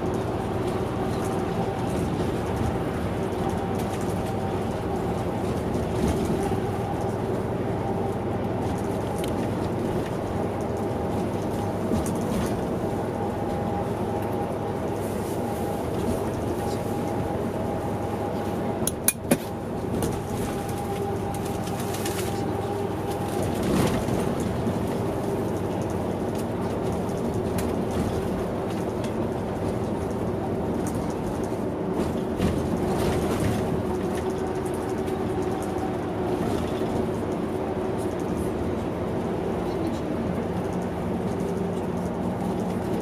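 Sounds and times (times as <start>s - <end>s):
bus engine humming: 0.0s - 43.0s.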